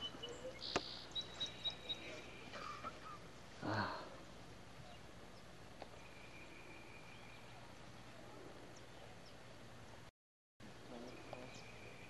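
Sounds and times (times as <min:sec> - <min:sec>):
faint low hum and hiss: 0:00.0 - 0:12.0.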